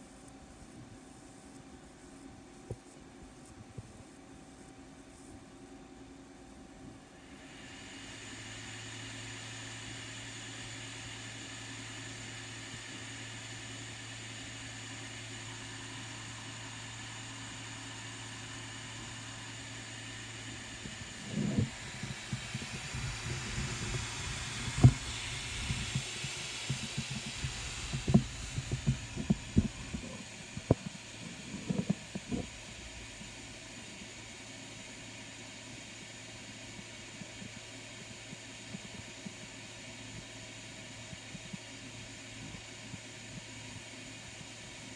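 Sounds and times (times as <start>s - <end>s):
printer humming and hissing: 0.0s - 44.9s.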